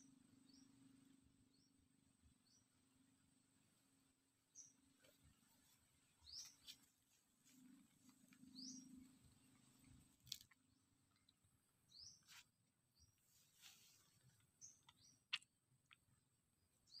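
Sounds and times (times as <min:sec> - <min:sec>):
faint bird chirps: 0:00.0 - 0:03.3, 0:04.5 - 0:15.3, 0:16.7 - 0:17.0.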